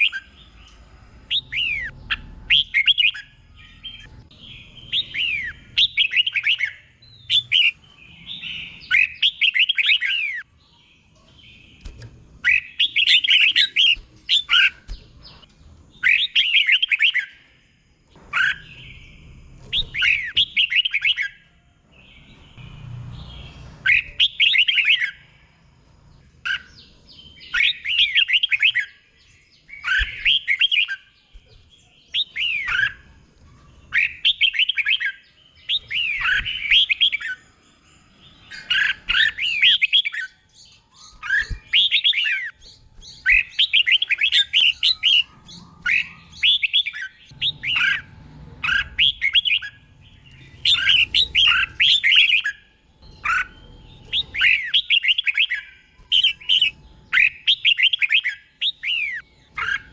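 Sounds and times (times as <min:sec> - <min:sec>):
bulbul whistled song: 0:01.3 - 0:10.5, 0:11.6 - 0:17.4, 0:19.7 - 0:21.4, 0:23.8 - 0:25.2, 0:26.5 - 0:31.2, 0:31.9 - 0:33.1, 0:33.9 - 0:59.9.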